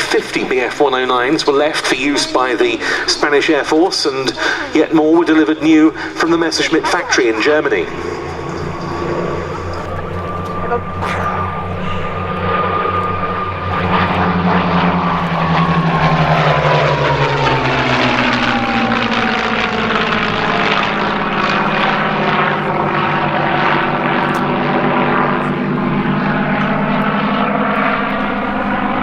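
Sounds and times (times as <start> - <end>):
propeller plane engine passing: 0.0 - 29.0.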